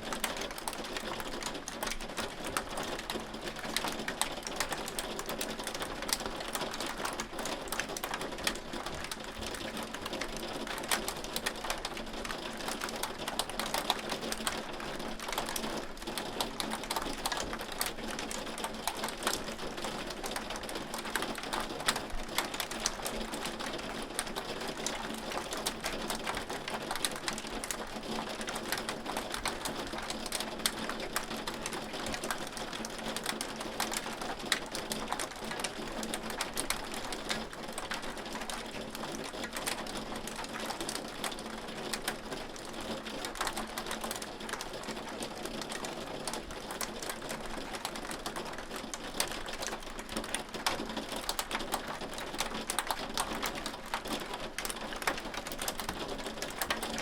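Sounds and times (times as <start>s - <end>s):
hail ticking on hard surface: 0.1s - 57.0s.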